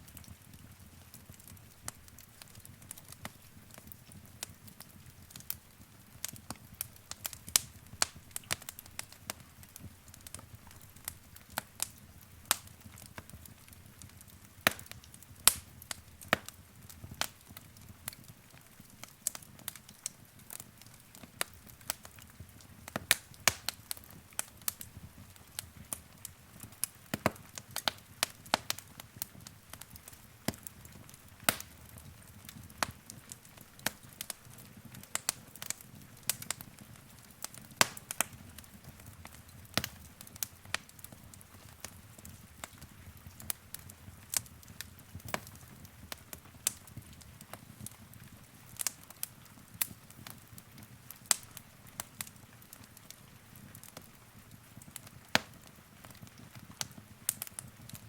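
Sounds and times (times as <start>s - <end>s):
low rumble of burning: 0.0s - 58.0s
wood fire crackling: 0.0s - 58.0s.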